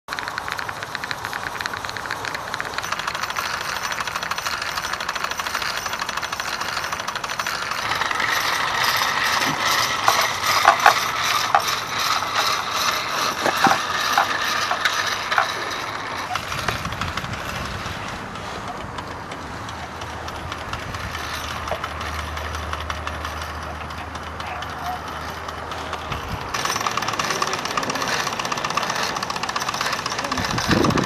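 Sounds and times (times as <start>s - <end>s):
mechanical clicks and knocks: 0.1s - 31.0s
model steam engine ticking: 0.1s - 31.0s.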